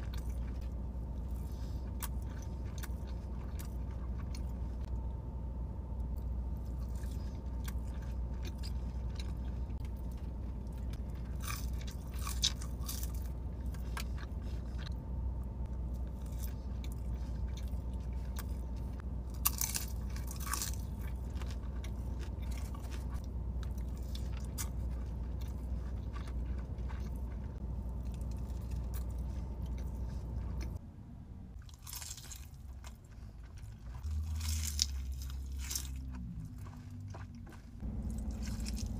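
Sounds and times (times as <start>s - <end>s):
person chewing and crunching food: 0.0s - 30.8s, 31.5s - 38.9s
steady low hum: 0.0s - 38.9s.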